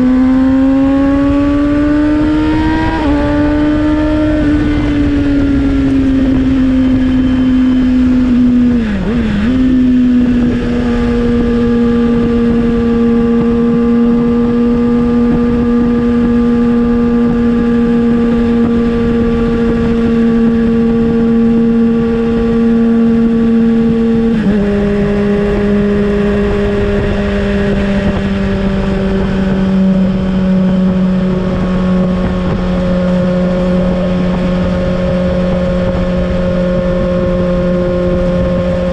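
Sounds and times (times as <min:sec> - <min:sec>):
motorcycle engine cruising: 0:00.0 - 0:38.9
wind rush: 0:00.0 - 0:38.9.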